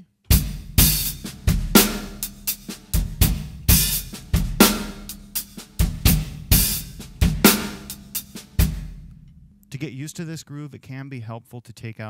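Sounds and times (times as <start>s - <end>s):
drum kit shuffle groove: 0.0s - 10.3s.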